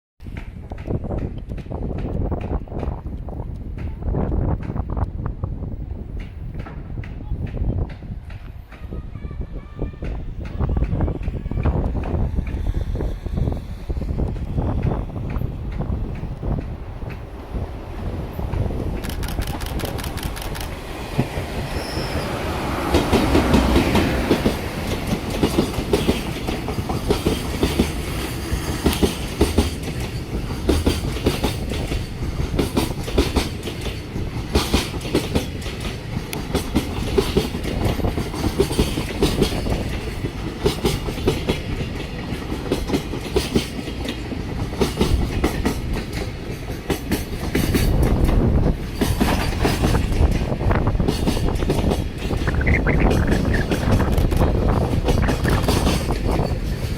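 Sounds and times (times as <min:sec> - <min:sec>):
freight train passing: 0:00.2 - 0:56.9
wheels clacking over rail joints: 0:10.0 - 0:56.9.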